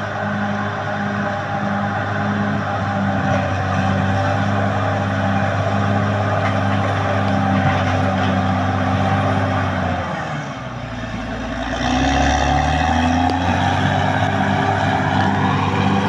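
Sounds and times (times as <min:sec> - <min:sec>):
bulldozer diesel engine under load: 0:00.0 - 0:16.0.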